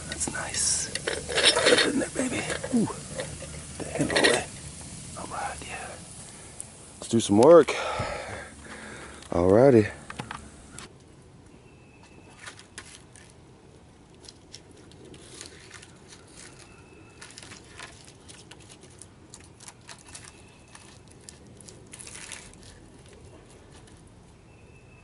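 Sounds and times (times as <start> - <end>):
crackles of dry twigs: 0.0 - 11.2, 12.0 - 24.6.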